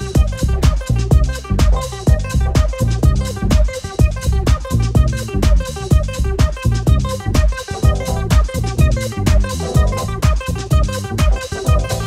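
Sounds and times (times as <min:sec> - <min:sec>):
house music: 0:00.0 - 0:12.0.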